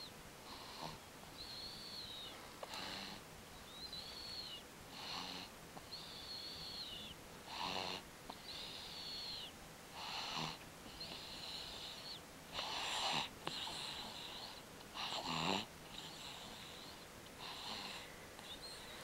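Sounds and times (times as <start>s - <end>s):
infant snoring: 0.4s - 3.2s, 3.8s - 19.0s.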